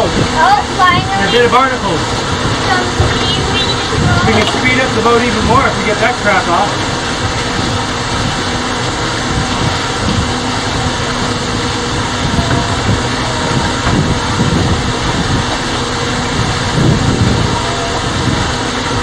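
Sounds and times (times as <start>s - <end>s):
rush of wind and water: 0.0s - 19.0s.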